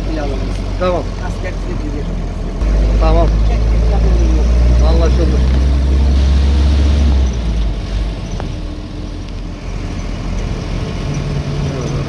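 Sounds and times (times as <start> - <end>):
car engine drone: 0.0 - 12.0
road noise inside car: 0.0 - 12.0.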